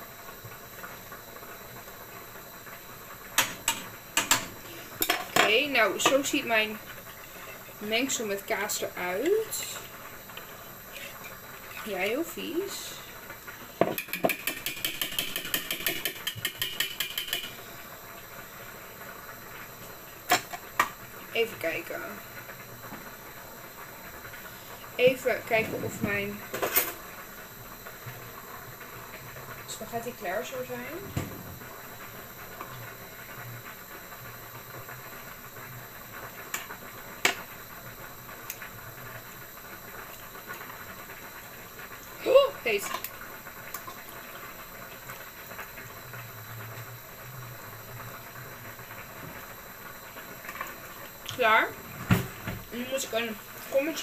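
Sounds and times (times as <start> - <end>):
water boiling in pot: 0.0 - 54.0.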